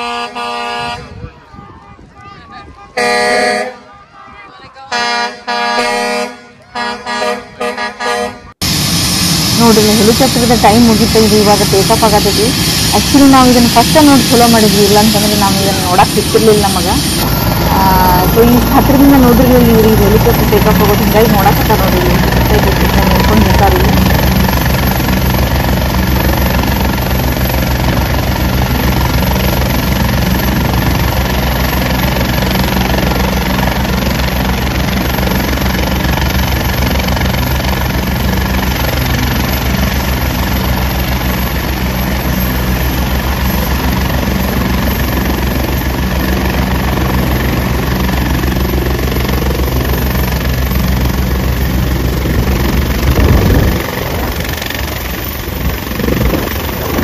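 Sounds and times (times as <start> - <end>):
helicopter turbine whine and rotor: 8.6 - 57.0.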